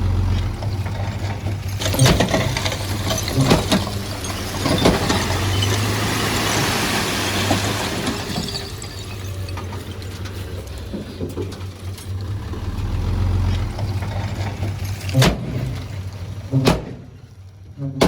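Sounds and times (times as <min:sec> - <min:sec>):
diesel construction machinery running: 0:00.0 - 0:18.0.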